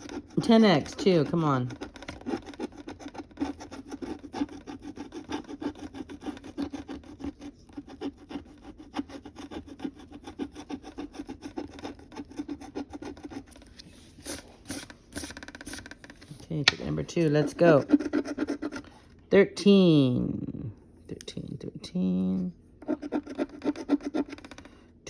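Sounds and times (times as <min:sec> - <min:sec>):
scraping lottery ticket: 0:00.0 - 0:18.9, 0:22.8 - 0:24.8.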